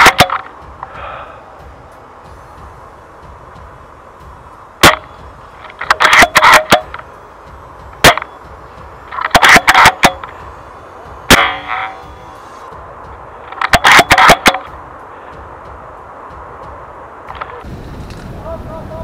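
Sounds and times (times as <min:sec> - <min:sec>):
rapid bursts of clacks: 0:00.0 - 0:17.6.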